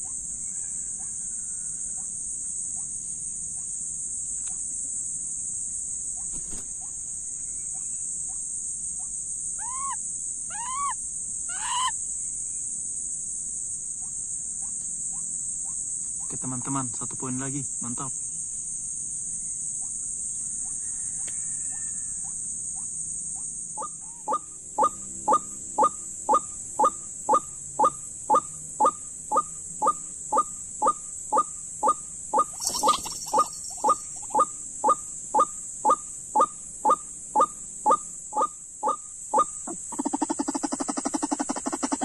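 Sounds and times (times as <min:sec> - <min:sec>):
high-pitched insect buzz: 0:00.0 - 0:42.0.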